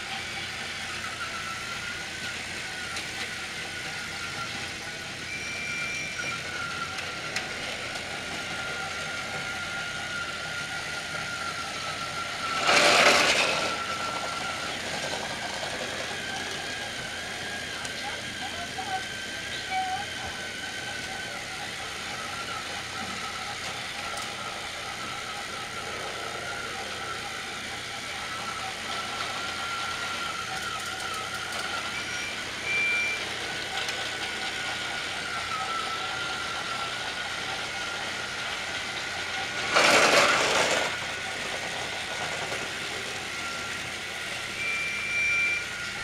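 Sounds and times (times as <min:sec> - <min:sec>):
toy train motors whining: 0:00.0 - 0:46.0.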